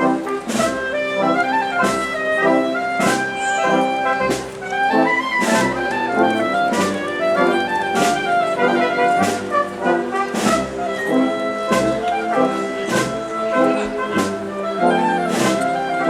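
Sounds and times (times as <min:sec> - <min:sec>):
brass and woodwind chords: 0:00.0 - 0:16.0.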